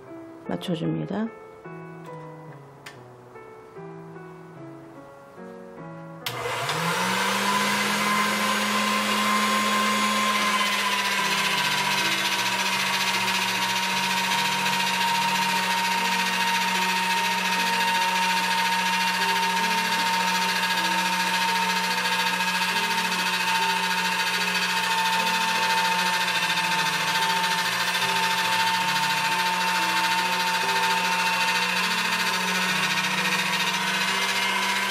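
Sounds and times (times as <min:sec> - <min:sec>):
electric motor humming and whining: 0:06.2 - 0:34.9.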